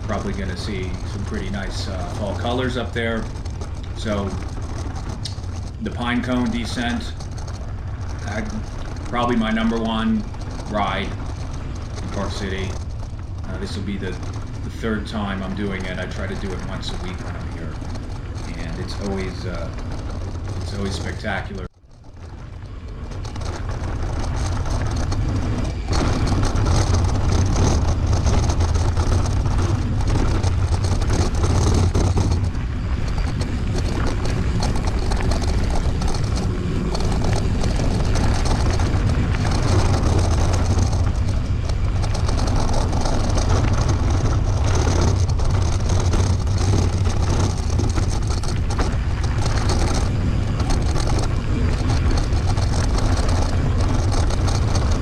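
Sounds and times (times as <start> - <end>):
bike rattles and knocks: 0.0 - 55.0
bike tyre noise: 0.0 - 55.0
wind buffeting microphone: 0.0 - 55.0.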